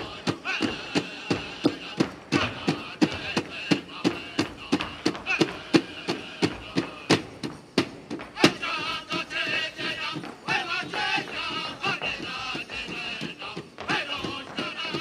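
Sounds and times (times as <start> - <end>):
person singing: 0.0 - 7.3, 8.4 - 15.0
drum beating steadily: 0.0 - 15.0.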